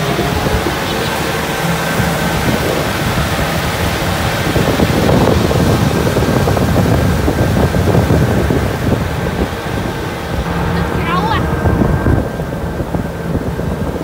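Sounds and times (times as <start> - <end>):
diesel engine running: 0.0 - 14.0
wind buffeting microphone: 0.0 - 14.0.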